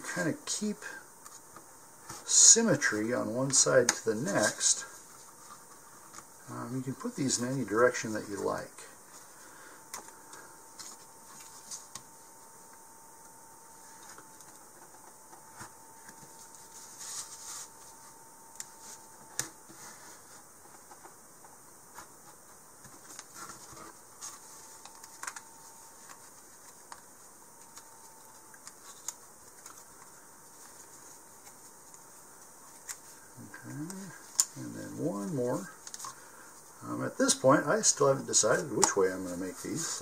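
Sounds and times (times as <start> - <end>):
faint steady tone: 0.0 - 40.0.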